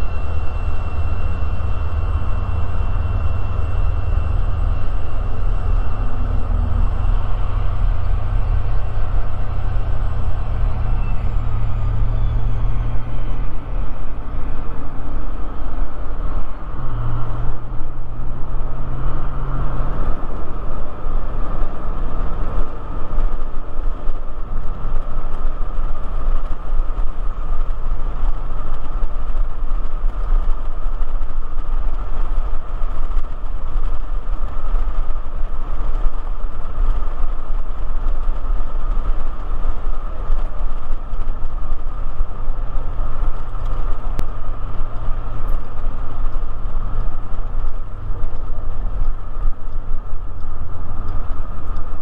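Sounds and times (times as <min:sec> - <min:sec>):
car road noise: 0:00.0 - 0:52.0
low hum: 0:00.0 - 0:52.0.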